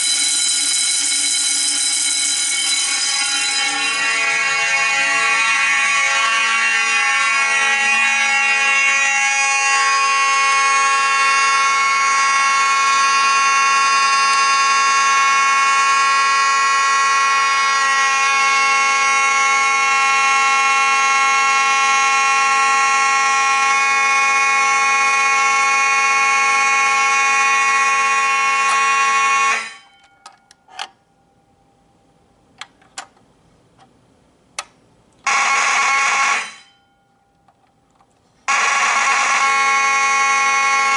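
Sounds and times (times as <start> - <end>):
fire alarm steady tone: 0.0 - 31.5, 35.3 - 37.6, 38.5 - 40.9.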